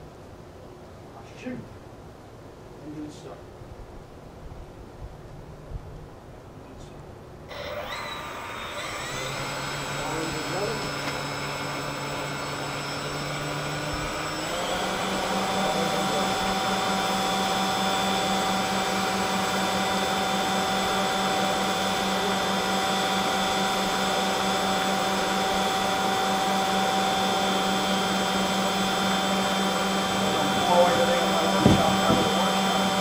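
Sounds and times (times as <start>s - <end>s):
electric ducted fan whine: 0.0s - 33.0s.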